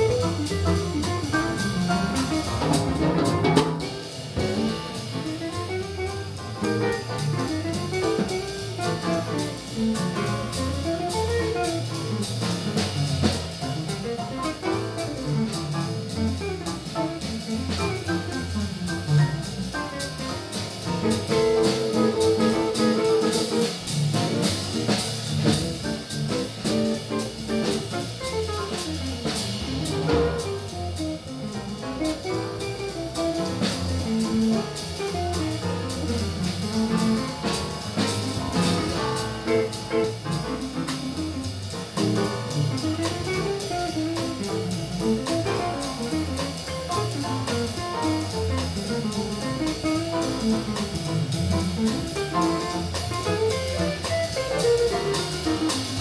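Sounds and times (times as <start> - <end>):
double bass: 0.0 - 56.0
drum kit with cymbals: 0.0 - 56.0
piano: 0.0 - 56.0.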